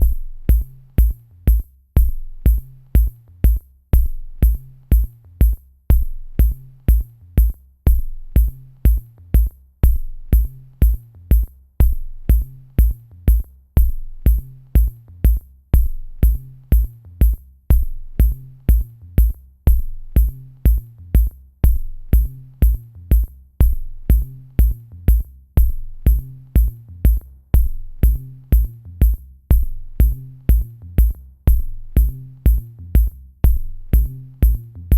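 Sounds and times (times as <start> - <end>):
drum machine beat: 0.0 - 34.9.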